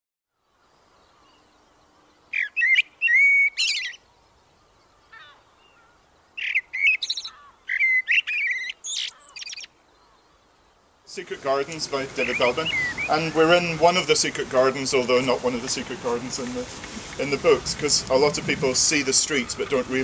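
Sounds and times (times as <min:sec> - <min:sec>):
songbird singing: 0:00.3 - 0:20.0.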